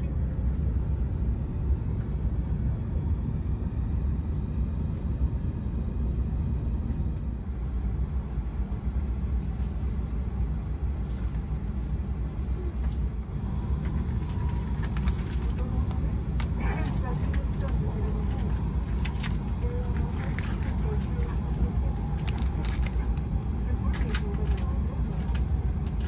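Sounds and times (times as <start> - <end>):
train rumble inside cabin: 0.0 - 26.0.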